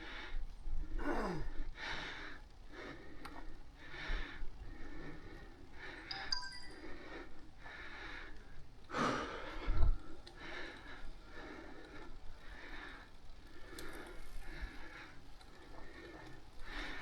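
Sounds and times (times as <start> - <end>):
cyclist breathing rhythmically: 0.0 - 17.0.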